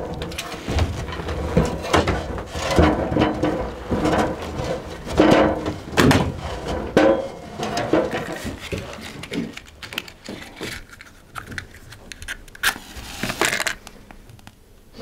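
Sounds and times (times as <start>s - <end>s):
hard objects knocking and clattering: 0.0s - 12.4s.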